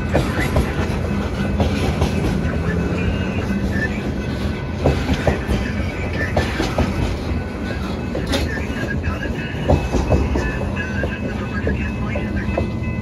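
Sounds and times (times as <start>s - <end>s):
train wheels rumbling on rail: 0.0s - 13.0s
wheels clacking over rail joints: 0.0s - 13.0s.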